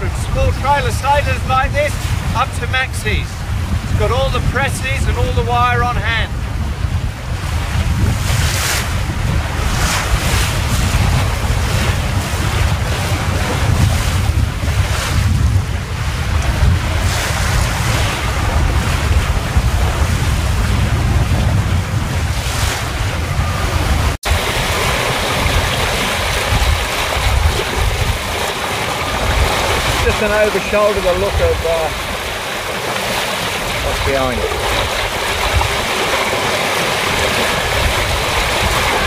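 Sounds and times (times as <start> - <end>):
foaming wake water rushing: 0.0 - 39.0
water rushing along boat hull: 0.0 - 39.0
wind buffeting microphone: 0.0 - 39.0
water splashing: 7.2 - 39.0.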